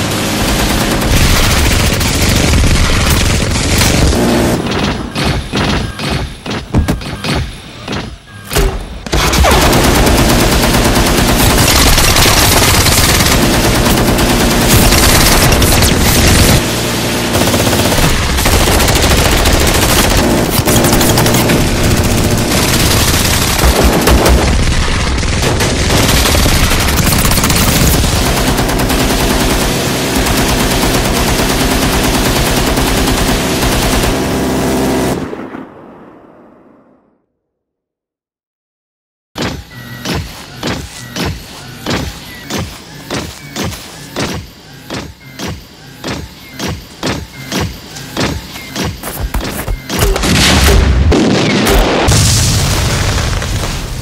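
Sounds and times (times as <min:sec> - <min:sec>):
minigun rapid fire: 0:00.0 - 0:35.4, 0:39.4 - 0:54.0.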